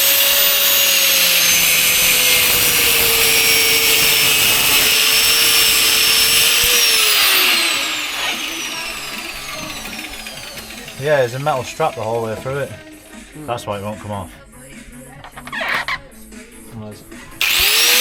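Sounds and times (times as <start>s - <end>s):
power tool cutting rubber: 0.0s - 13.0s, 15.2s - 16.3s, 17.2s - 18.0s.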